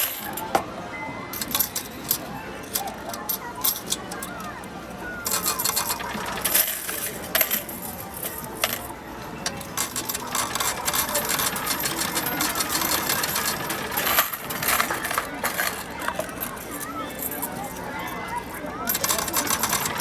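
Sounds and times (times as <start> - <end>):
metal tokens clattering: 0.0 - 0.6, 1.4 - 4.6, 5.2 - 20.0.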